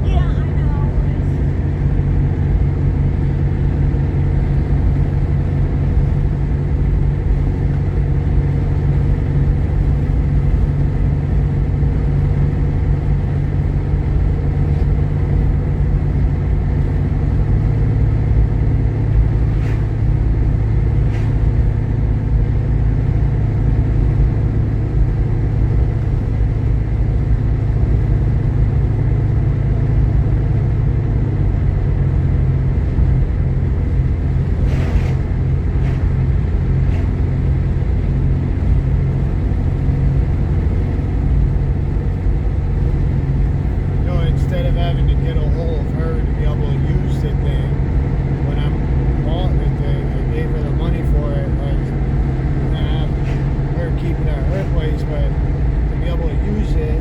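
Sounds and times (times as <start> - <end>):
car engine drone inside cabin: 0.0 - 57.0
road noise: 0.0 - 57.0.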